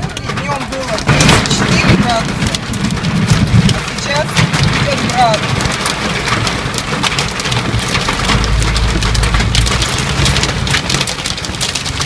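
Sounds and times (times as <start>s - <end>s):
deep low rumble: 0.0s - 12.0s
heavy rain on car windshield: 0.0s - 12.0s.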